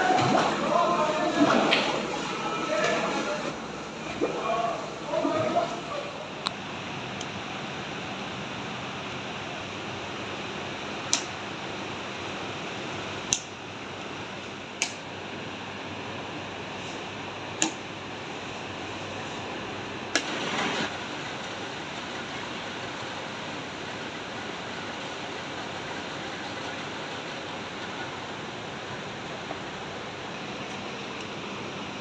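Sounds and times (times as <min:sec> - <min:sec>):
fan-like workshop noise: 0:00.0 - 0:32.0.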